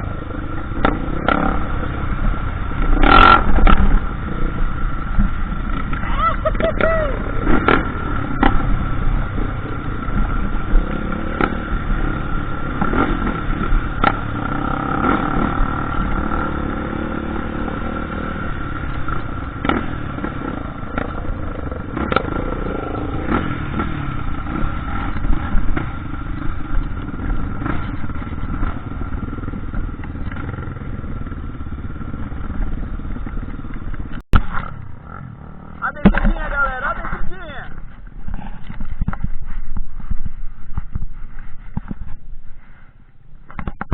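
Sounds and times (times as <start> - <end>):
dirt bike engine revving: 0.0 - 37.2.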